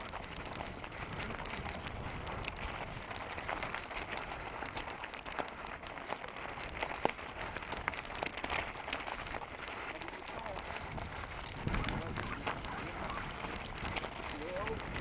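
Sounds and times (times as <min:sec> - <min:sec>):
gravel crunching: 0:00.0 - 0:15.0
sharp clicks and pops: 0:00.0 - 0:15.0
tyre rolling on gravel: 0:00.0 - 0:15.0.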